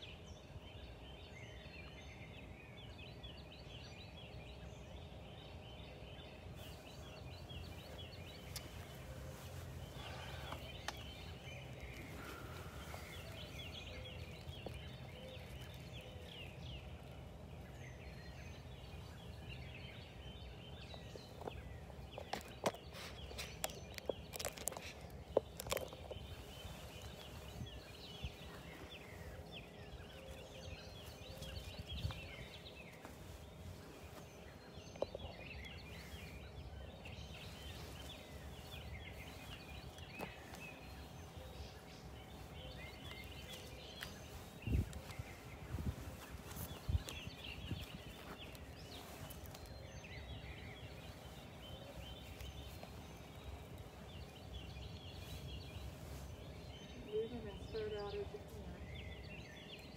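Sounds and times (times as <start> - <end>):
birds chirping and singing: 0.0 - 59.9
faint steady hum: 0.0 - 59.9.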